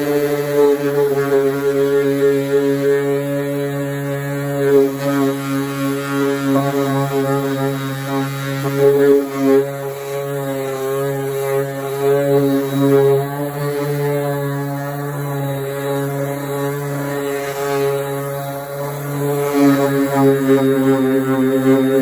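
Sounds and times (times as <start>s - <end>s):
orbital sander motor hum: 0.0s - 22.0s.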